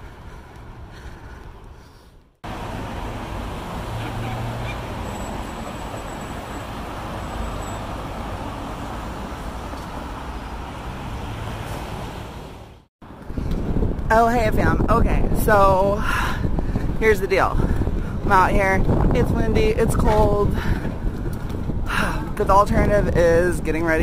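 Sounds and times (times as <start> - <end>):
road traffic noise: 0.0 - 14.8, 15.5 - 24.0.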